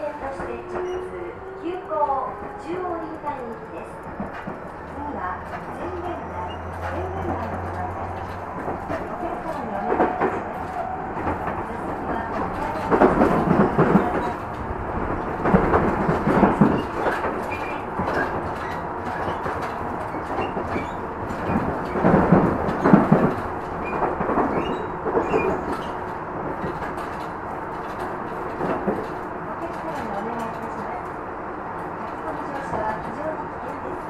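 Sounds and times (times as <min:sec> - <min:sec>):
clatter over rail joints: 0:00.0 - 0:34.0
train wheels rumbling on rails: 0:00.0 - 0:34.0.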